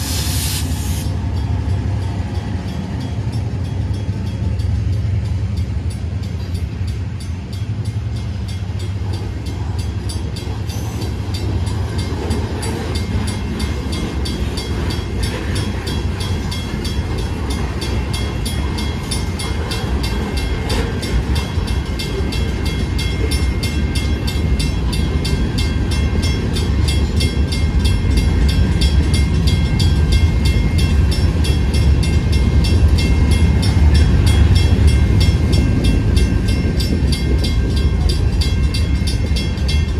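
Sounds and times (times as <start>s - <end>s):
crossing warning bell ringing: 0.0s - 39.9s
diesel locomotive engine rumbling: 0.0s - 39.9s.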